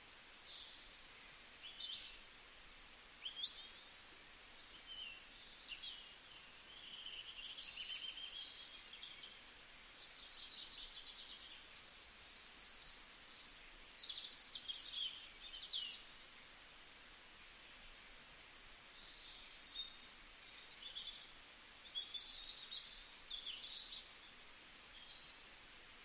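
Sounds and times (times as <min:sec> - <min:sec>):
faint steady hiss: 0:00.0 - 0:26.0
small birds chirping: 0:00.0 - 0:26.0.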